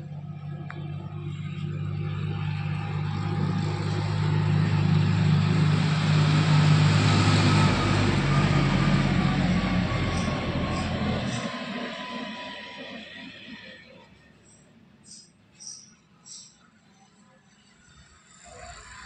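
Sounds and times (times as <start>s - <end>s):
motor vehicle engine running: 0.0s - 16.6s.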